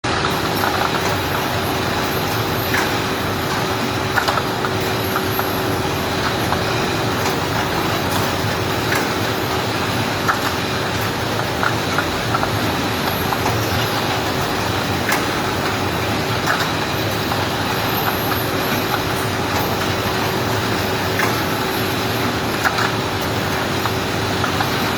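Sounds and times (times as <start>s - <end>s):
shrink wrapping machine humming: 0.0s - 24.9s.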